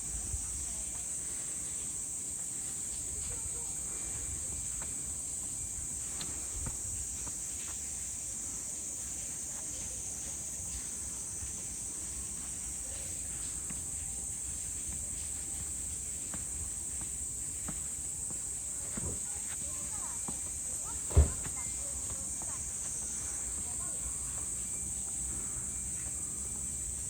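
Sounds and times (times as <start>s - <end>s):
insects droning: 0.0s - 27.0s
faint footsteps: 0.4s - 27.0s.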